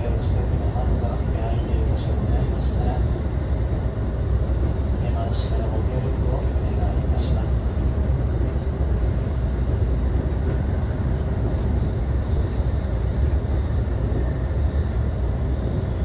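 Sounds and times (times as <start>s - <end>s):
train interior running rumble: 0.0s - 16.0s.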